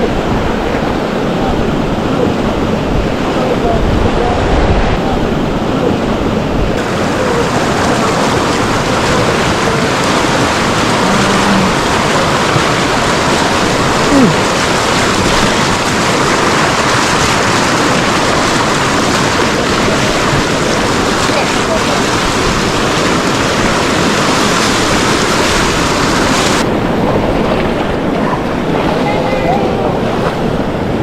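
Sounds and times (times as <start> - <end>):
rushing stream water: 0.0 - 31.0.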